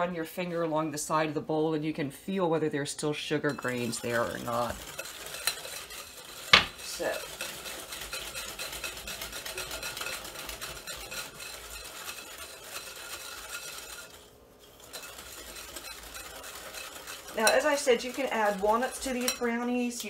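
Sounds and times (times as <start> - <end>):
whisk beating in glass bowl: 3.3 - 20.0.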